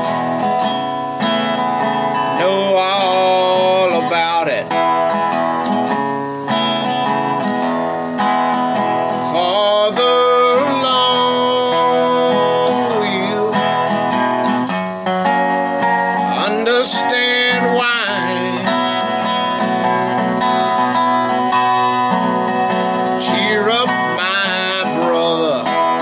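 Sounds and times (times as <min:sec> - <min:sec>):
slide guitar gospel melody: 0:00.0 - 0:26.0.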